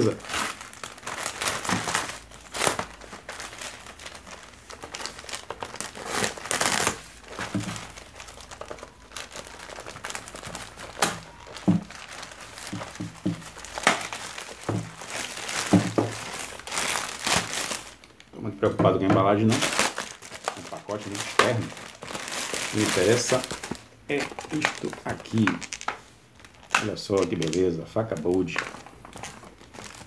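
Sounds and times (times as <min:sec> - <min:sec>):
plastic crinkling and tearing: 0:00.0 - 0:18.4, 0:19.2 - 0:30.0.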